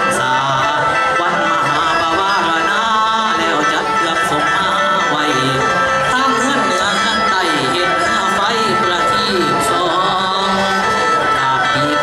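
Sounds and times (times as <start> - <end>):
folk music ensemble: 0.0 - 12.0.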